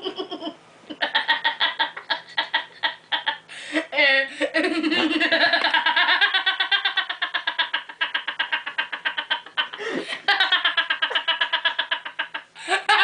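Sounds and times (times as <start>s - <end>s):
person laughing hard: 0.0s - 13.0s.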